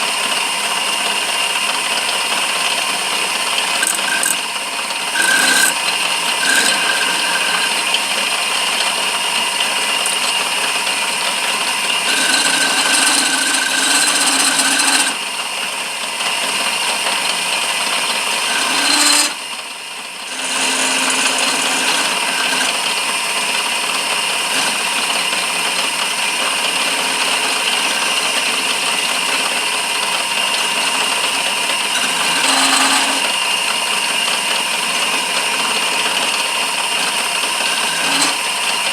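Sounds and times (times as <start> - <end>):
lathe motor whine: 0.0 - 38.9
tool scraping spinning wood: 0.0 - 38.9.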